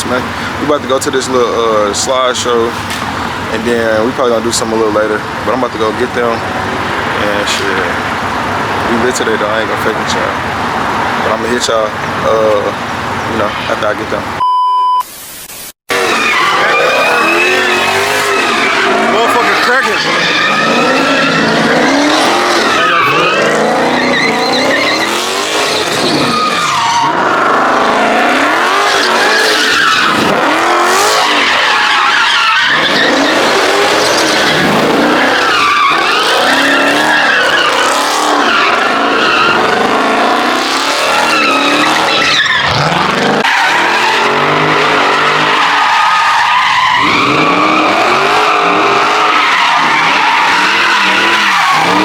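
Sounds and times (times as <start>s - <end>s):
car engines revving hard: 0.0s - 14.4s, 15.9s - 52.0s
tyres squealing on pavement: 0.0s - 14.4s, 15.9s - 52.0s.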